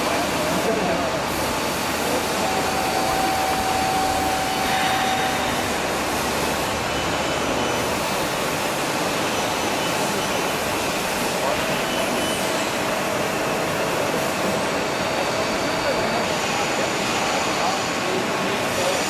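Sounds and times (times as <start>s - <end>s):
workshop machinery noise: 0.0s - 19.0s.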